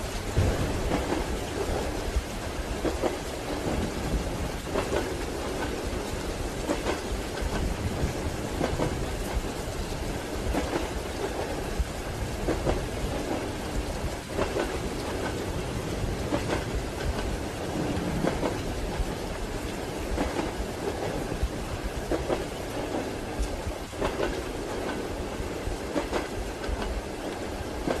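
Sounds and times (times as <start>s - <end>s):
moving train rumble: 0.0s - 28.0s
rain on train window: 0.0s - 28.0s
wheels knocking on rails: 0.2s - 28.0s.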